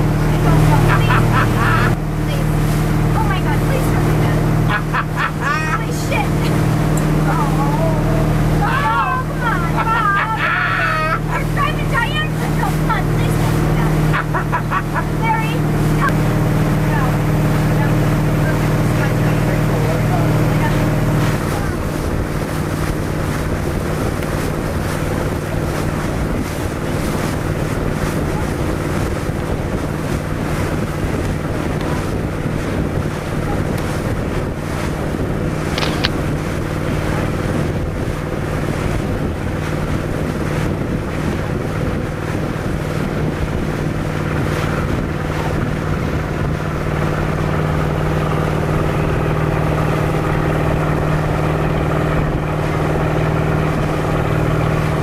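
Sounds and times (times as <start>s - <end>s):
boat engine droning: 0.0s - 55.0s
water rushing past hull: 0.0s - 55.0s
wind buffeting microphone: 0.0s - 55.0s.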